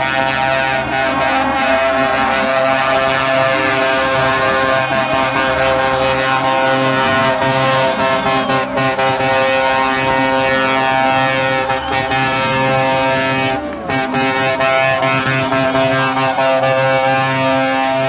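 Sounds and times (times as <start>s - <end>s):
truck air horns: 0.0s - 18.0s.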